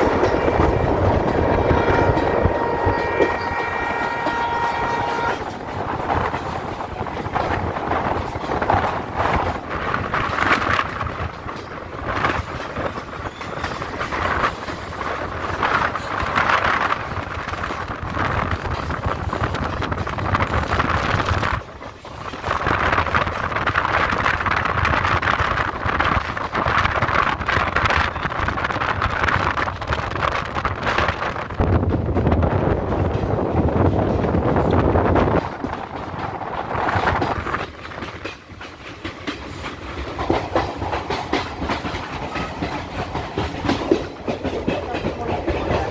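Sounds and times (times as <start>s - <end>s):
train coaches rumbling and rattling: 0.0s - 45.9s
wind buffeting microphone: 0.0s - 45.9s.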